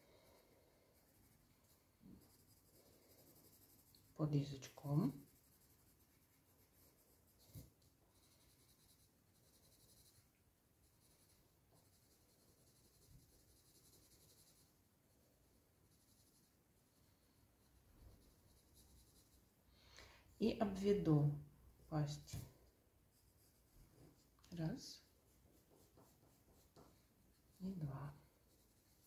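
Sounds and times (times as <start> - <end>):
pencil scratching on paper: 0.0 - 15.2, 15.8 - 19.5, 21.8 - 29.0.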